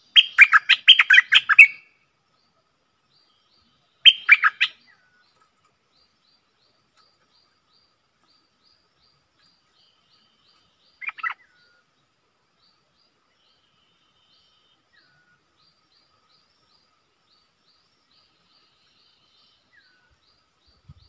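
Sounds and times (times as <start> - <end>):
bird singing: 0.0 - 21.0
faint high chirps: 3.2 - 21.0.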